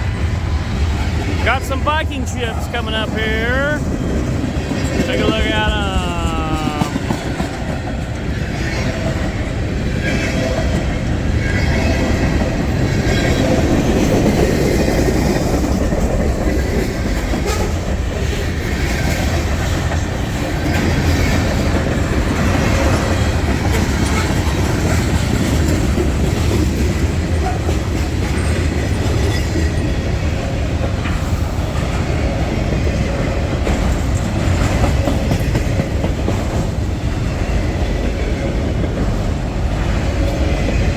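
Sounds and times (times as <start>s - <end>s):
train cars rumbling on rails: 0.0s - 40.9s.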